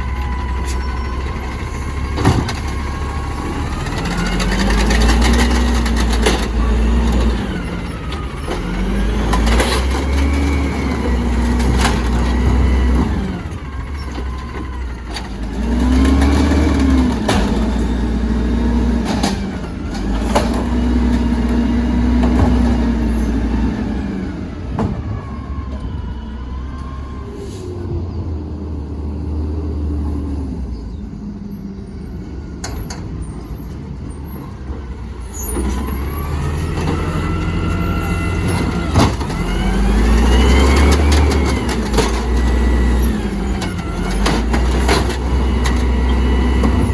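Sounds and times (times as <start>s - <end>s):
garbage truck engine revving: 0.0s - 46.9s.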